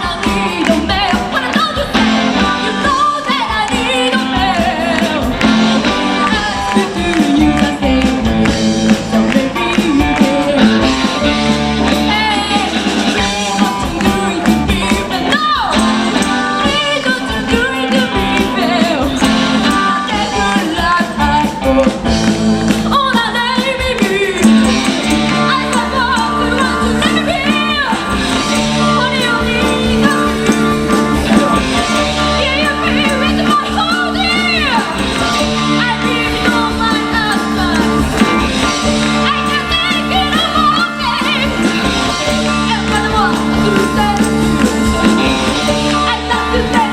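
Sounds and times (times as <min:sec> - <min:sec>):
live rock band playing: 0:00.0 - 0:46.9
person singing: 0:00.0 - 0:46.9.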